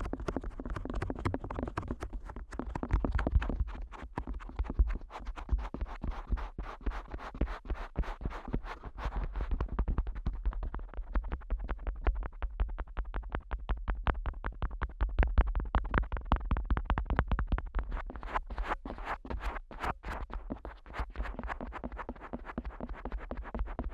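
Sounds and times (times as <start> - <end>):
fingertips tapping on microphone: 0.0 - 23.9.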